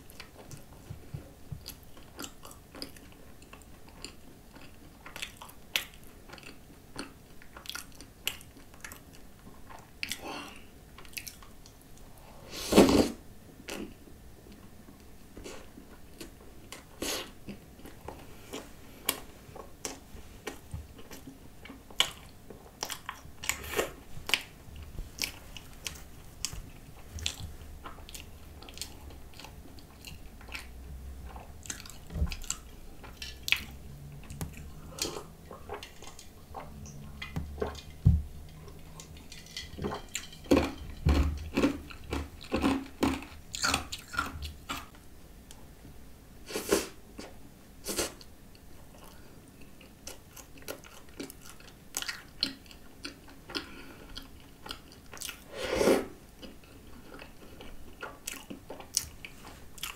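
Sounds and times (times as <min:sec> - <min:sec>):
close chewing with mouth clicks: 0:00.0 - 0:11.8, 0:13.6 - 0:45.0, 0:48.0 - 0:55.5, 0:56.3 - 0:59.9.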